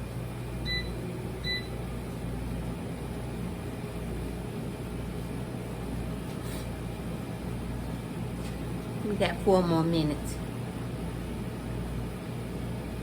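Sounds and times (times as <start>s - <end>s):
air fryer fan hum: 0.0s - 13.0s.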